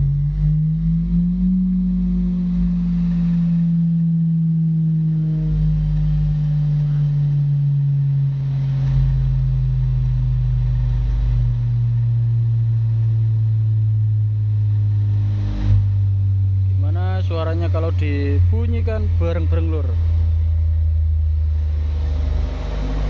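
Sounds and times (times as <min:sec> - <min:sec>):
deep rumble: 0:00.0 - 0:23.0
low sine test tone gliding down: 0:00.0 - 0:23.0.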